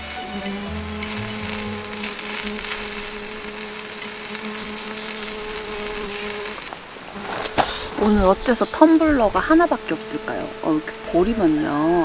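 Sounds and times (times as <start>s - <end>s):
bee buzzing: 0.0s - 12.0s.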